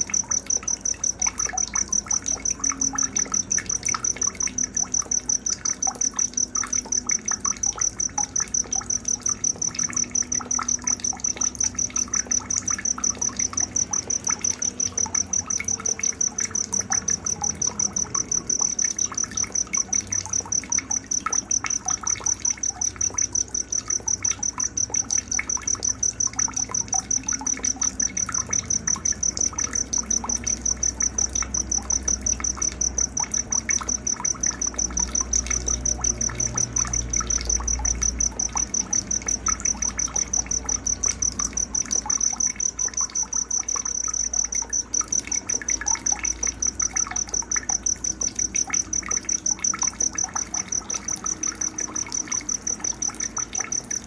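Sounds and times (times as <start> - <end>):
cricket trilling: 0.0 - 54.0.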